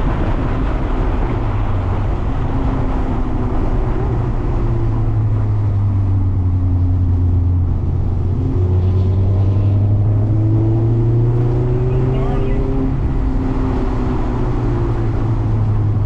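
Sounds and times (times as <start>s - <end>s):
car engine running under load: 0.0s - 16.0s
tyre and road noise: 0.0s - 16.0s.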